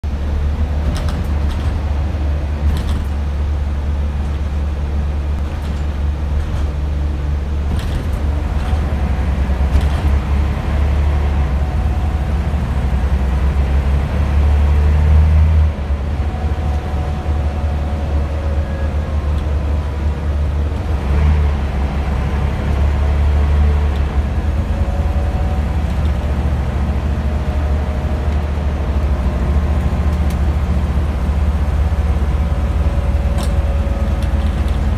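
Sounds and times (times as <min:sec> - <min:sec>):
bus engine revving: 0:00.0 - 0:34.9.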